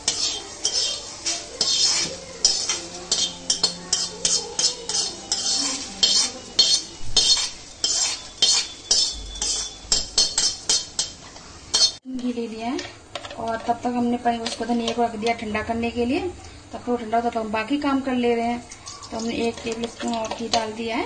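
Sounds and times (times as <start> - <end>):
metal scraping against pan: 0.0 - 15.6, 18.7 - 20.8.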